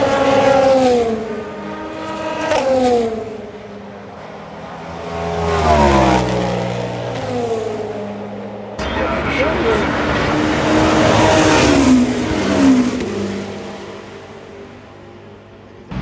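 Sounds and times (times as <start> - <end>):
race cars passing at speed: 0.0 - 16.0.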